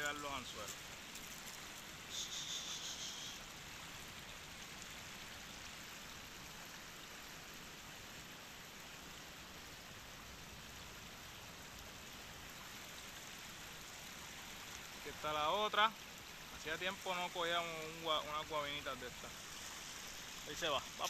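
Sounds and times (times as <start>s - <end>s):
stream rushing over stones: 0.0s - 21.0s.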